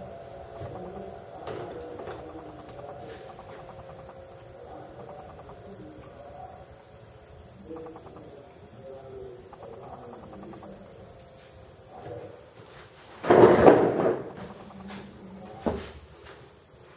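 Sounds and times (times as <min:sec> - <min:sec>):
insects chirping: 0:00.0 - 0:16.9.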